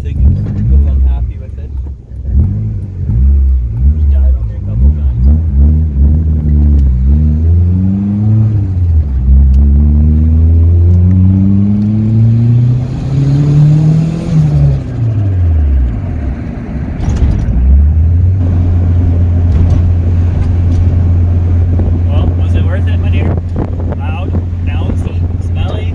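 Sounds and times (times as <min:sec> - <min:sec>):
car engine accelerating through gears: 0:00.0 - 0:25.9.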